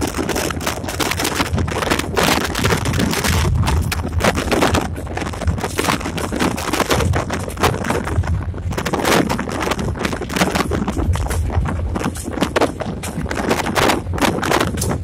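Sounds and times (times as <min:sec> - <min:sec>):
cab rattling and clattering: 0:00.0 - 0:15.0
diesel locomotive engine hum: 0:00.0 - 0:15.0
wheel and track noise: 0:00.0 - 0:15.0
wind buffeting microphone: 0:00.0 - 0:15.0.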